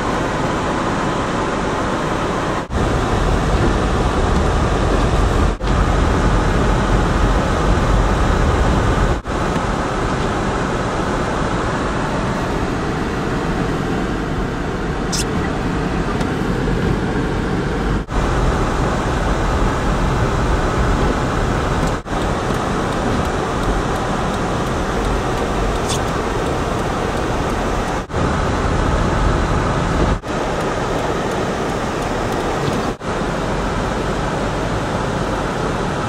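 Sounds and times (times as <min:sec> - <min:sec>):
car road and tyre noise: 0:00.0 - 0:36.0.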